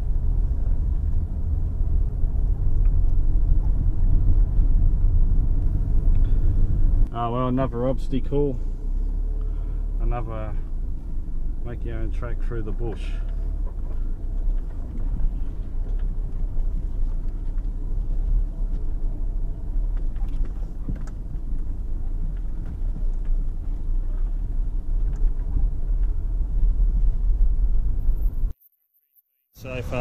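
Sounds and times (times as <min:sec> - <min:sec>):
vehicle engine and tyres rumbling: 0:00.0 - 0:28.6, 0:29.6 - 0:30.0.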